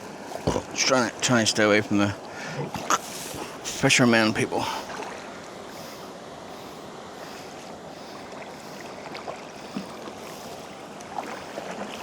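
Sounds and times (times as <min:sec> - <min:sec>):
water noise from kayak paddling: 0:00.0 - 0:12.0.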